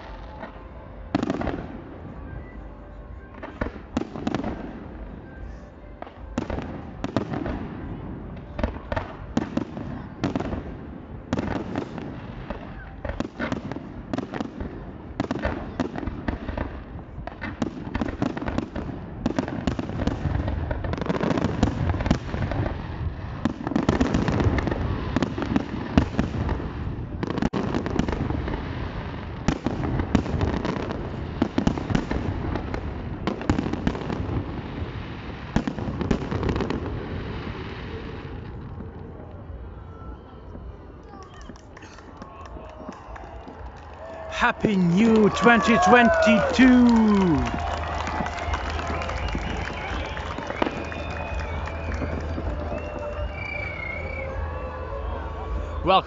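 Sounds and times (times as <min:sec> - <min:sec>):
fireworks bangs and crackles: 0:00.0 - 0:02.5, 0:03.3 - 0:56.0.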